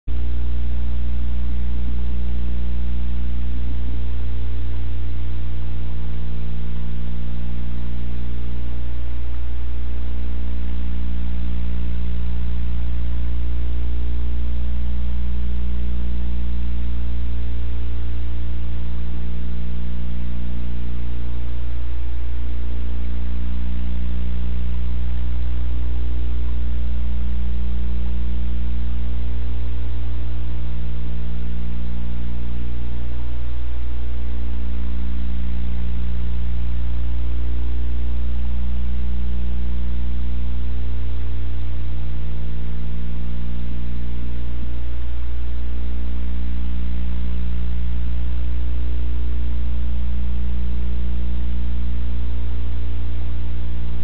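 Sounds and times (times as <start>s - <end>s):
electrical mains hum: 0.1s - 54.0s.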